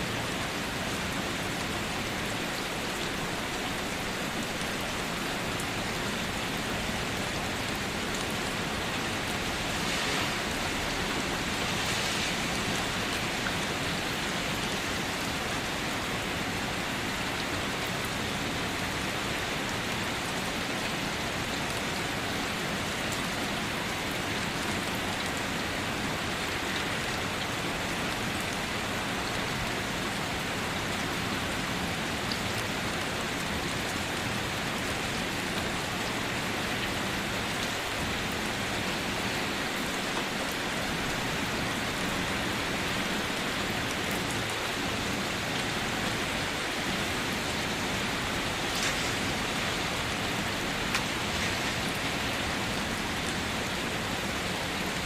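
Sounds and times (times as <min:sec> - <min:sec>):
raindrops pattering on surfaces: 0:00.0 - 0:55.0
steady rain falling: 0:00.0 - 0:55.0.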